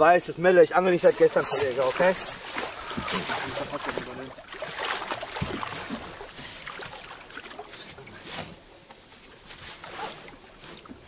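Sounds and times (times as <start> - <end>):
water splashing against boat: 0.8 - 11.0.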